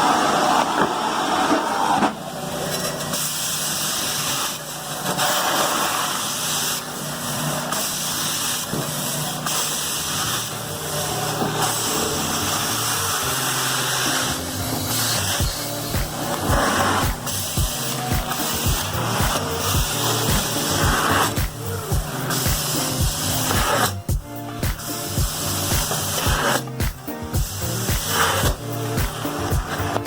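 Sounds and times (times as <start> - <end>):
steam cleaner spraying and suction: 0.0 - 30.0.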